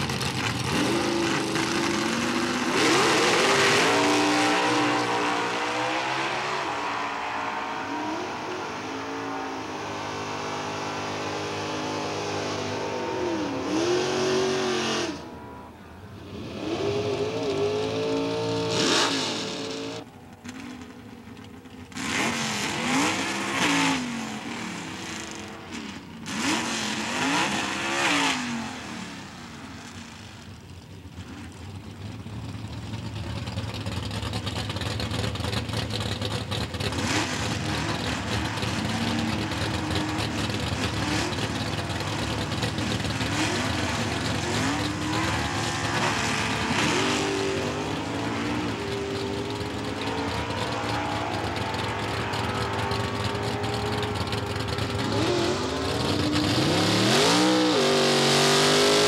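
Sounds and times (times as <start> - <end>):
car engine revving: 0.0 - 32.1, 33.0 - 59.0.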